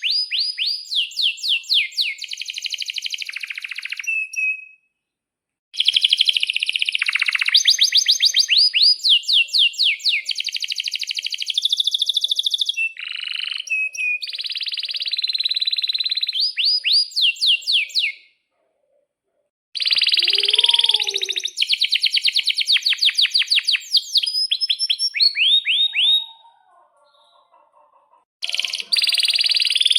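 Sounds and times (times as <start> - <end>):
canary singing: 0.0 - 4.8, 5.8 - 18.3, 19.8 - 29.9.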